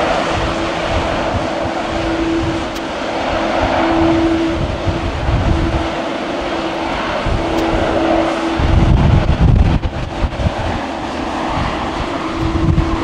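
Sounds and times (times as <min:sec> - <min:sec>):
jet engine hiss: 0:00.0 - 0:13.0
jet engine hum: 0:00.0 - 0:13.0.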